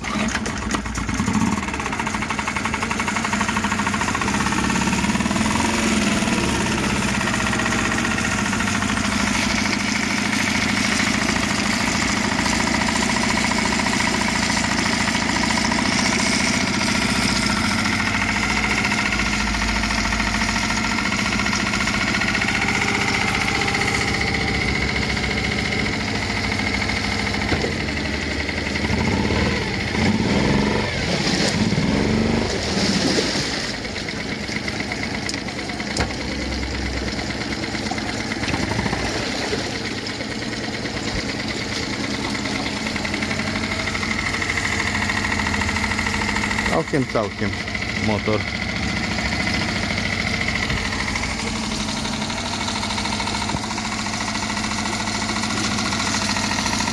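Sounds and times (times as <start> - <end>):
outboard motor idling: 0.0 - 56.9.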